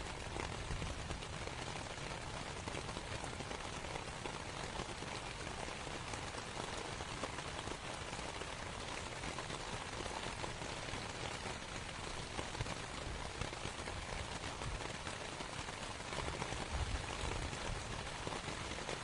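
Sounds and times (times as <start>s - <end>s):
rain on a canvas tent: 0.0s - 19.0s.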